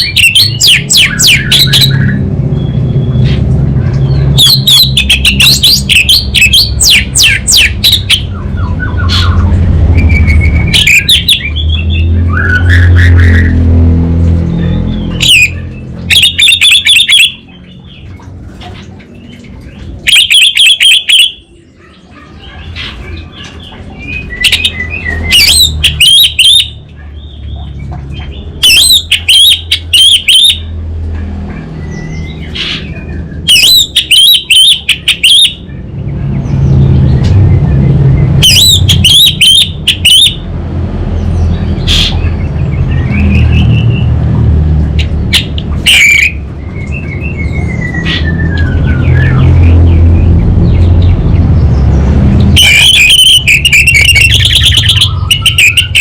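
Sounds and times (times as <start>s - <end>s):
bird whistling song: 0.0s - 3.4s, 4.0s - 13.6s, 14.5s - 18.1s, 19.1s - 30.7s, 31.8s - 35.8s, 36.4s - 40.5s, 41.2s - 44.1s, 45.0s - 51.8s, 52.4s - 56.0s.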